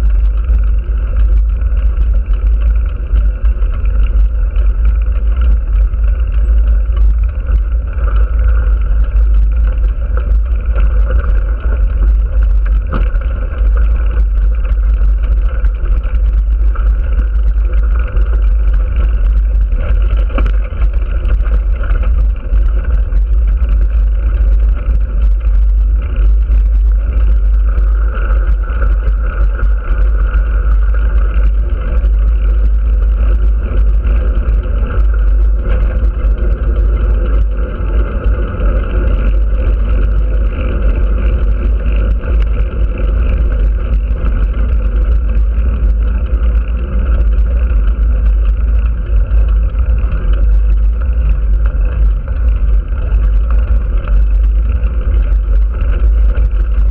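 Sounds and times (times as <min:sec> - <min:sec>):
steady hum: 0:00.0 - 0:56.9
wind rushing over microphone: 0:00.0 - 0:56.9.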